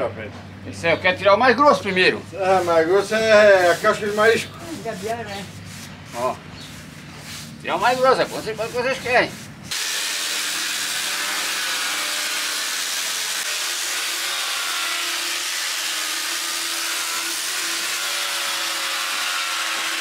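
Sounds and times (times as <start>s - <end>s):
angle grinder sanding wood: 2.0s - 20.0s.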